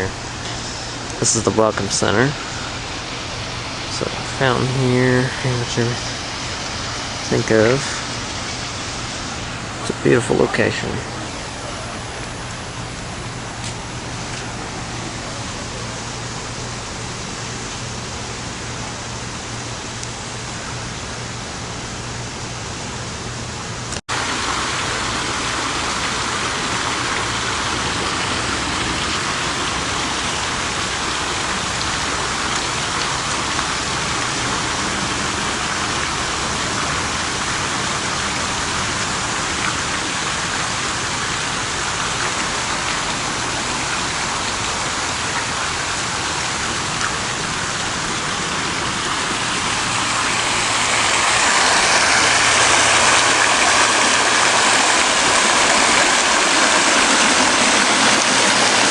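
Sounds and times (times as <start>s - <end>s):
fountain water splashing: 0.0s - 58.9s.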